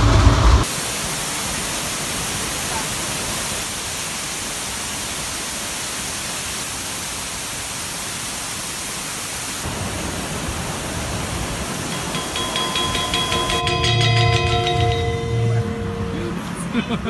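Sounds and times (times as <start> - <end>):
waterfall rushing hiss: 0.0 - 17.0.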